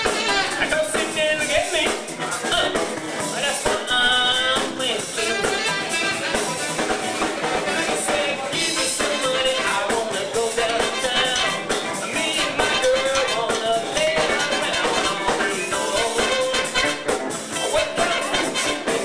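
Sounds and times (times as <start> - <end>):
drum kit steady beat: 0.0 - 19.0
electric guitars: 0.0 - 19.0
saxophones: 0.0 - 19.0.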